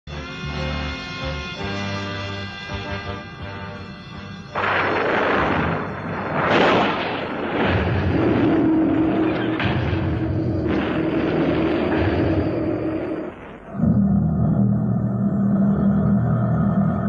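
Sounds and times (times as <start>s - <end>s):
dramatic soundtrack music: 0.1s - 17.0s.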